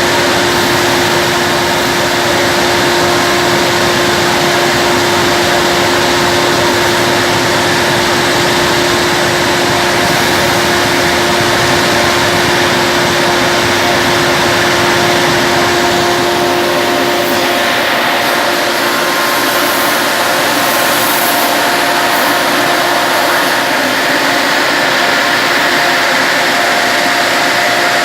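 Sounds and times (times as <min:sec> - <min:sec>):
constant hum: 0:00.0 - 0:28.0
grain dryer blower rushing air: 0:00.0 - 0:28.0.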